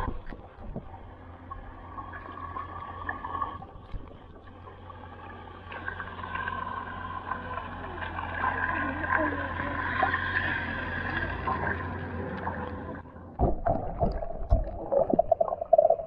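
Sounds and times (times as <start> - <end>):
muffled underwater water sound: 0.0 - 16.0.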